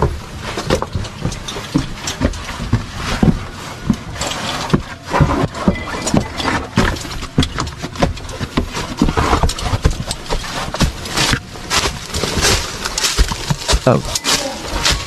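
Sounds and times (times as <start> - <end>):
footsteps crunching on rock rubble: 0.0 - 15.0.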